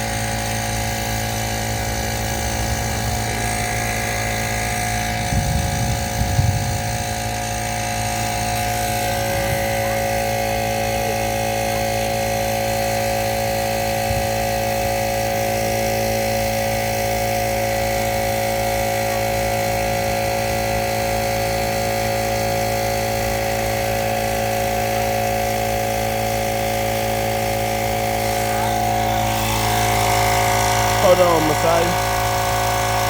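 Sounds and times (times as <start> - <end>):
air compressor running: 0.0 - 33.0.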